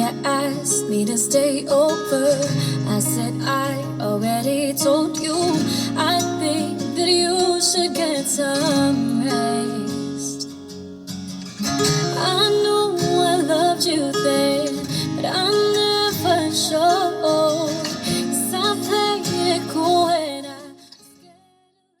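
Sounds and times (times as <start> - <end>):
woman singing: 0.0 - 10.6, 11.9 - 21.7
acoustic guitar song: 0.0 - 21.7.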